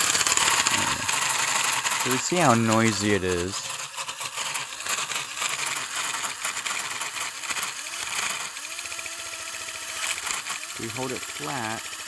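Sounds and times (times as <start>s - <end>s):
pump motor rattling and grinding: 0.0s - 12.0s.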